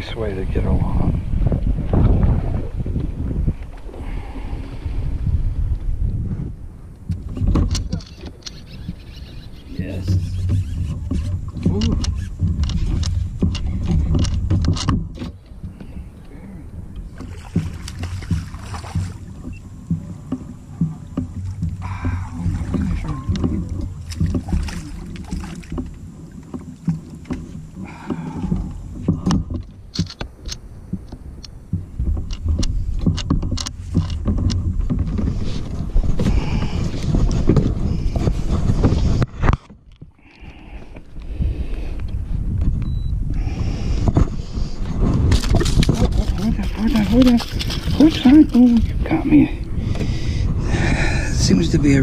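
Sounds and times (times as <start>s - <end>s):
knocks and rumbling on boat: 0.0s - 52.0s.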